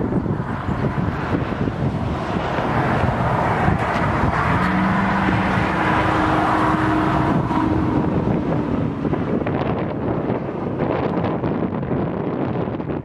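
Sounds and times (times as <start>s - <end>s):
motor vehicle hum: 0.0s - 13.0s
wind blowing across microphone: 0.0s - 13.0s.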